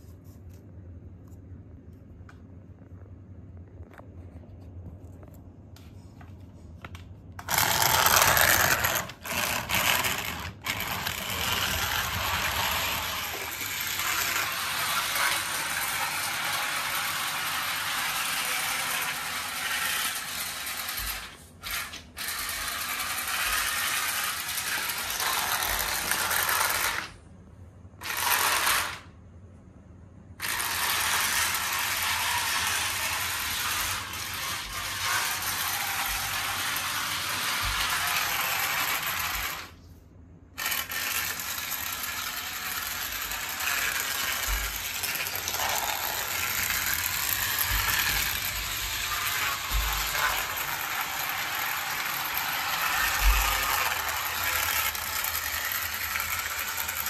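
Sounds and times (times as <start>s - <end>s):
toy train motor whirring: 7.4s - 27.2s, 28.0s - 29.1s, 30.4s - 39.8s, 40.6s - 57.0s
toy train wheels rattling: 7.4s - 27.2s, 28.0s - 29.1s, 30.4s - 39.8s, 40.6s - 57.0s.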